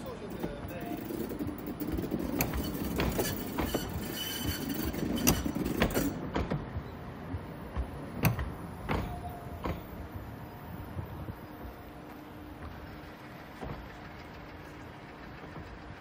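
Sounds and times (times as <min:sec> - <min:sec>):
tram rumbling past: 0:00.0 - 0:16.0
tram wheels clacking over track: 0:00.0 - 0:16.0.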